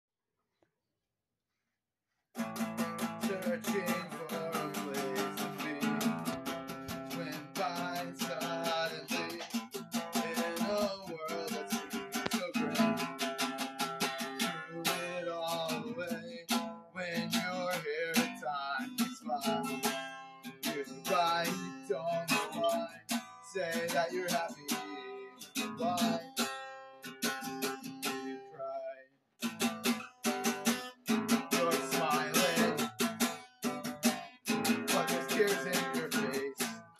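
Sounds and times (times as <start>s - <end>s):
acoustic guitar strumming chords: 2.3s - 36.9s.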